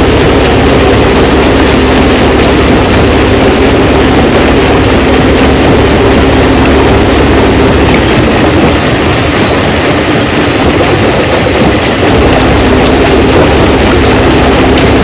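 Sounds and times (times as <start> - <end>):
stone-crushing machine running: 0.0 - 15.0.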